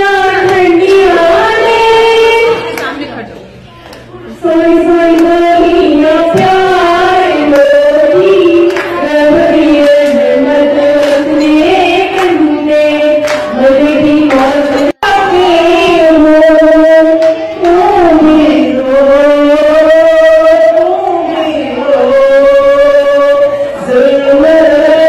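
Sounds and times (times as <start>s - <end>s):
second woman singing: 0.0s - 2.9s, 4.3s - 25.0s
woman singing: 0.0s - 3.0s, 4.3s - 25.0s.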